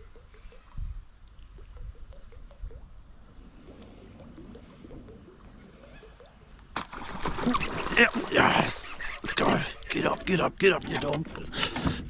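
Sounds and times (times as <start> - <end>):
gurgling lapping water: 0.0 - 12.0.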